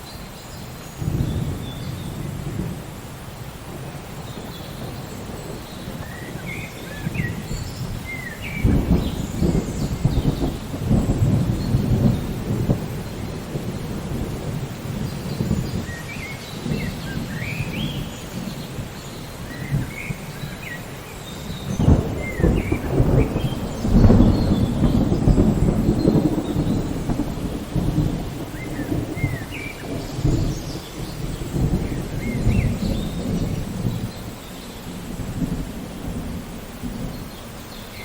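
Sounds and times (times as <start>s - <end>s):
steady rain: 0.0s - 38.0s
rolling thunder rumbles: 1.0s - 38.0s.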